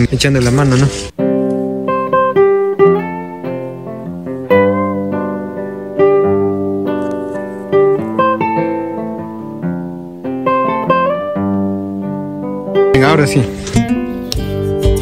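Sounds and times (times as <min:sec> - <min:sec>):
acoustic guitar melody: 0:00.4 - 0:15.0.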